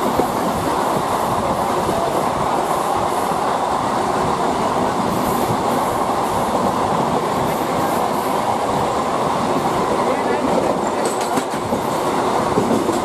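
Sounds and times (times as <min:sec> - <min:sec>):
rhythmic rail clatter: 0:00.0 - 0:13.0
train wheels rumbling on rails: 0:00.0 - 0:13.0.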